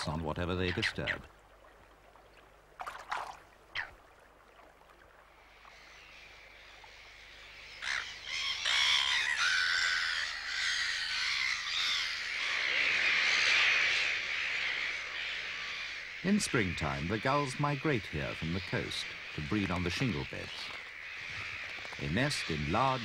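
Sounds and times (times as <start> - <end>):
gulls calling: 0.0 - 1.5, 2.9 - 4.2, 5.3 - 23.0.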